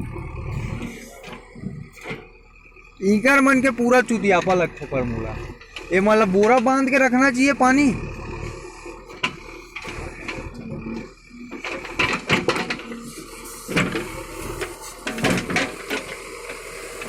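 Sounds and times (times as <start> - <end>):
knocks and clunks: 0.0 - 2.4, 3.2 - 7.8, 9.0 - 16.2
backhoe engine idling: 0.0 - 17.0.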